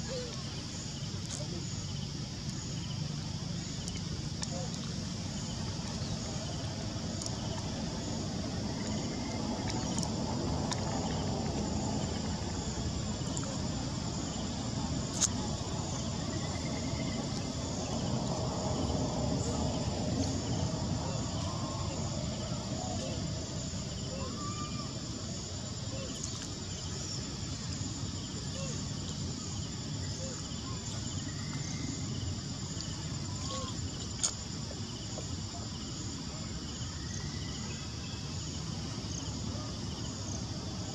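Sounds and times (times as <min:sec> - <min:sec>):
insect chirps: 0:00.0 - 0:40.9
insects droning: 0:00.0 - 0:40.9.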